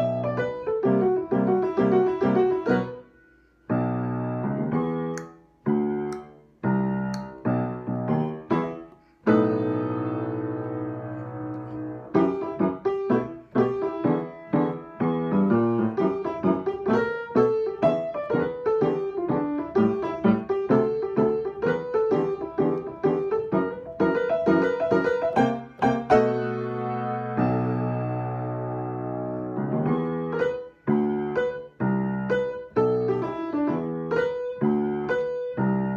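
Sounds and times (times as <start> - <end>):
solo piano: 0.0 - 35.9.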